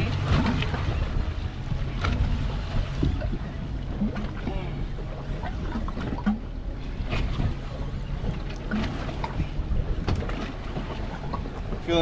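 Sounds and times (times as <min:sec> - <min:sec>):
low rumble: 0:00.0 - 0:12.0
water against boat hull: 0:00.0 - 0:12.0
wind buffeting microphone: 0:00.0 - 0:12.0.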